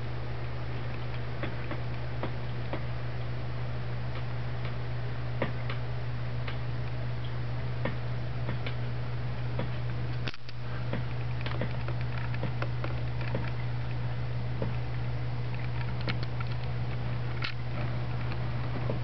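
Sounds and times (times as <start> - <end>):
air pump humming: 0.0 - 19.0.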